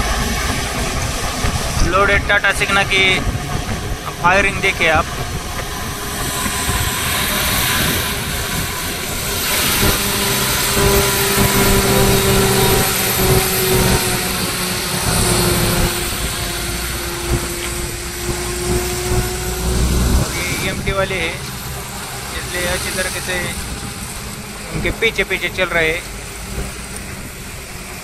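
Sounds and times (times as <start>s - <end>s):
engine whine: 0.0s - 28.0s
truck diesel engine passing: 0.0s - 28.0s.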